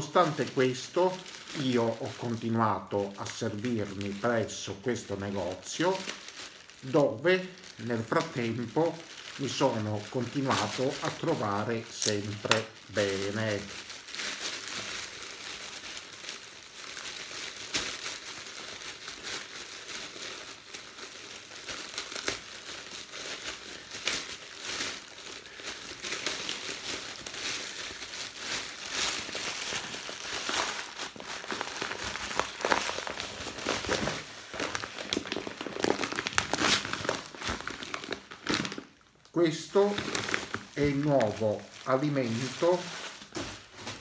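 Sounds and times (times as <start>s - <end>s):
plastic bag crinkling: 0.0s - 44.0s.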